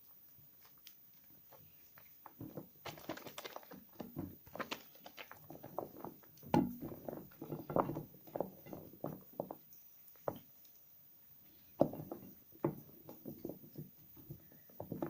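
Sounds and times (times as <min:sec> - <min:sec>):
hands squishing wet soap: 0:00.0 - 0:15.0.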